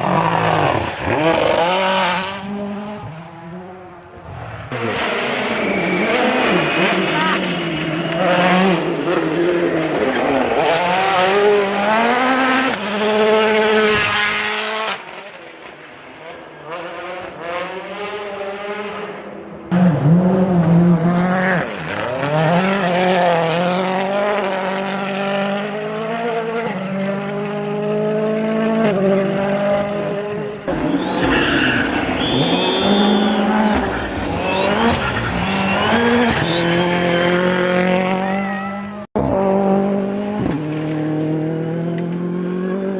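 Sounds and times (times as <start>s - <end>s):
rally cars passing at speed: 0.0s - 42.9s.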